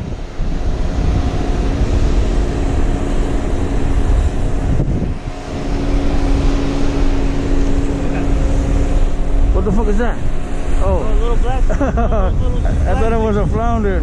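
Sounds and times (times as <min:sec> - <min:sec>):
steady low hum: 0:00.0 - 0:14.0
surf: 0:00.0 - 0:14.0
wind buffeting microphone: 0:00.0 - 0:14.0.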